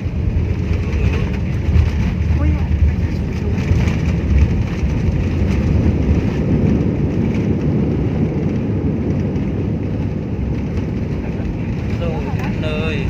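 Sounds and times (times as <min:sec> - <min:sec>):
airliner engine and airflow roar: 0:00.0 - 0:13.0.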